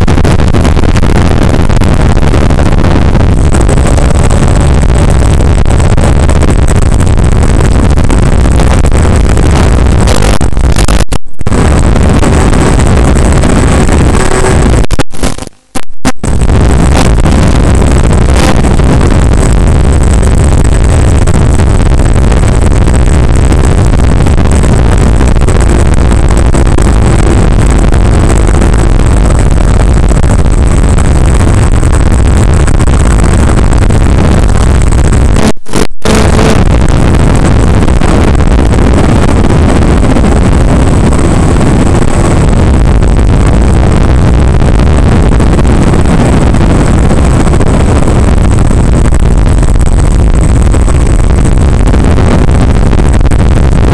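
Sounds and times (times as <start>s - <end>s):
loud wind rush: 0.0s - 15.2s, 16.2s - 53.9s.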